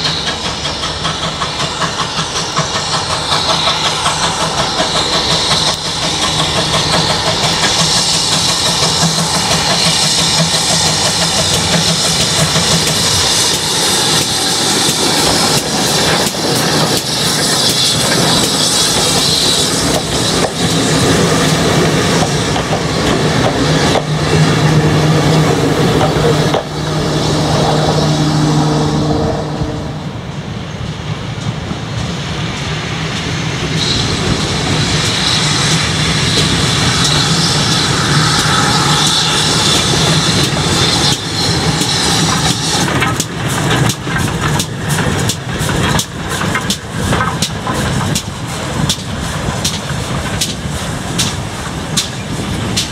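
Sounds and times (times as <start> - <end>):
steam locomotive working: 0.0 - 52.9.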